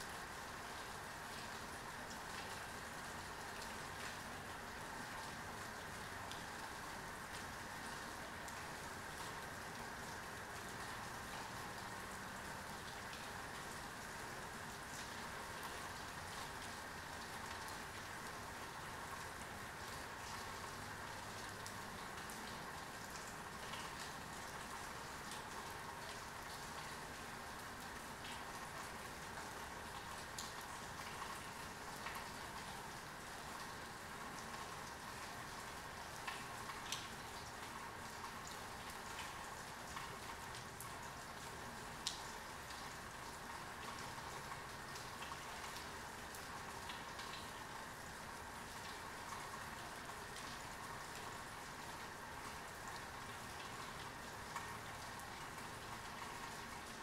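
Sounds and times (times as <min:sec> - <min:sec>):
heavy rain: 0:00.0 - 0:57.0
rain drops striking close: 0:00.0 - 0:57.0.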